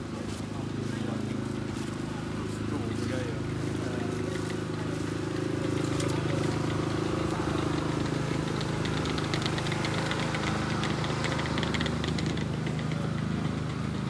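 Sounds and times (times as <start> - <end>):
vehicle engine idling: 0.0 - 14.0
voices of passers-by: 0.0 - 14.0.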